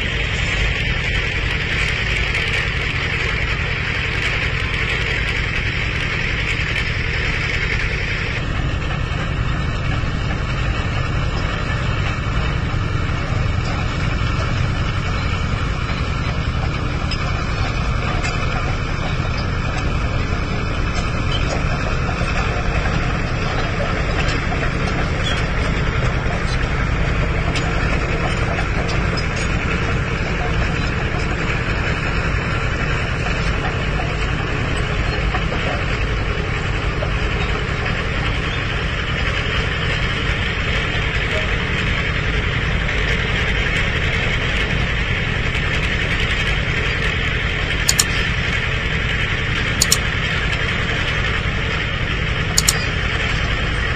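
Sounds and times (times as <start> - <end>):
heavy diesel engine rumbling: 0.0 - 53.9.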